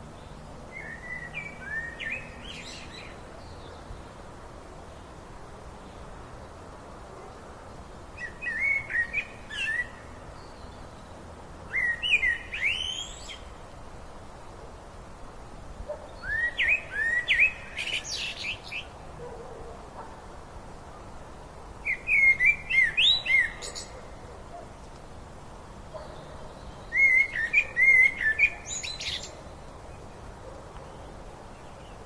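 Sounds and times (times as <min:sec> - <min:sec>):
songbird chirping: 0:00.0 - 0:06.6, 0:07.3 - 0:14.6, 0:15.8 - 0:19.7, 0:21.8 - 0:32.0.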